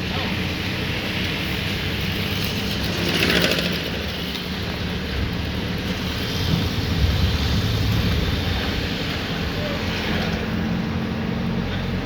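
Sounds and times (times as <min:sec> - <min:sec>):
engine running with low rumble: 0:00.0 - 0:12.0
street noise: 0:00.0 - 0:12.0.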